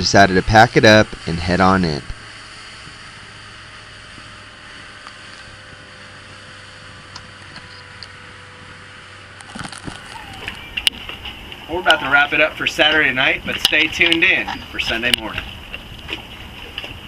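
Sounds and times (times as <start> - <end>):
boat engine drone: 0.0 - 17.0
wind and water rushing: 0.0 - 17.0.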